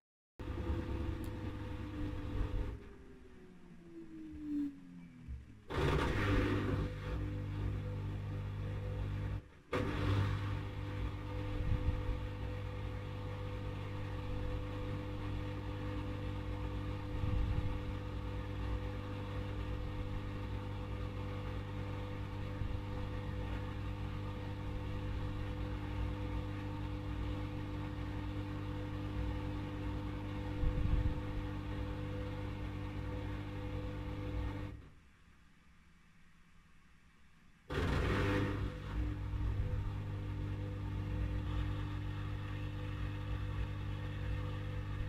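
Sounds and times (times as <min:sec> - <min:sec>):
washing machine motor hum: 0:00.4 - 0:35.0, 0:37.7 - 0:45.0.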